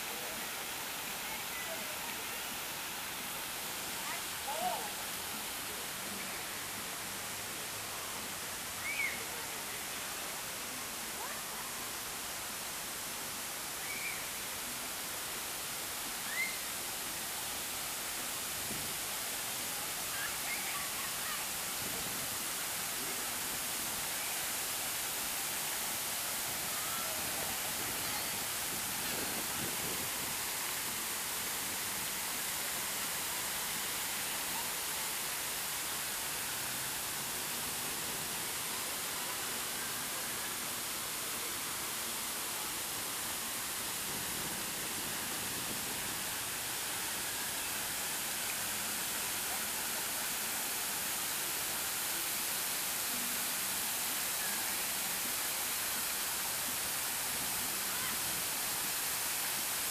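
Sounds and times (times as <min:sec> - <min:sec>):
fountain water jets spraying: 0:00.0 - 0:59.9.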